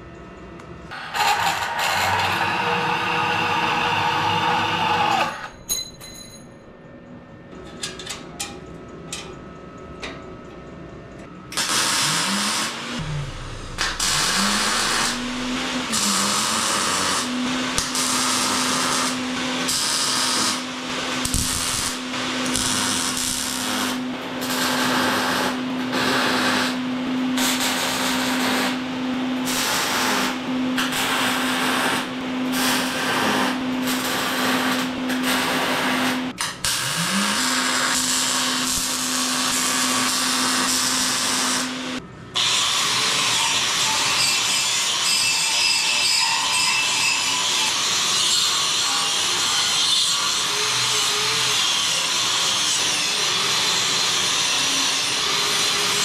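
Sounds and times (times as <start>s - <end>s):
grinding steel: 0.9s - 5.6s, 11.6s - 26.8s, 29.4s - 56.0s
electric grinder whining: 1.0s - 5.5s, 11.7s - 26.8s, 29.5s - 56.0s.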